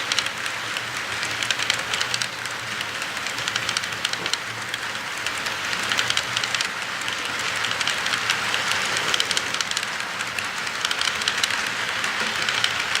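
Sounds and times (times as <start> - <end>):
model train rolling whir: 0.0 - 13.0
wheels clicking on rails: 0.0 - 13.0.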